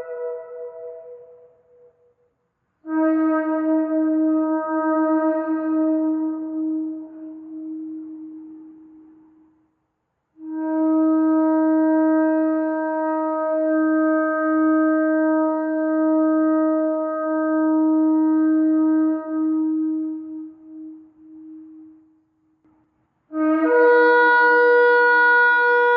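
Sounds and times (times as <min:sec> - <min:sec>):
shofar blasts: 0:00.0 - 0:02.0, 0:02.8 - 0:09.4, 0:10.4 - 0:22.2, 0:23.3 - 0:25.9.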